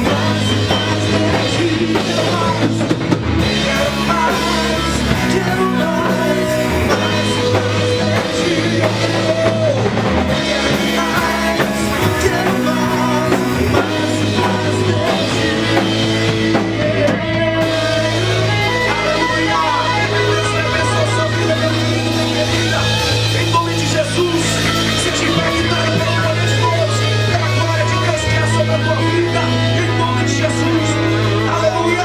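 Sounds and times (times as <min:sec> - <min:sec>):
live band playing: 0:00.0 - 0:32.0
person singing: 0:00.0 - 0:32.0.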